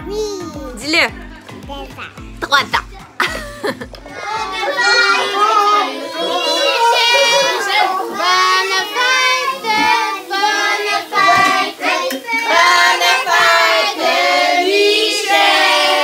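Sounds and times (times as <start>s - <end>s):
group singing birthday song: 1.1s - 16.0s.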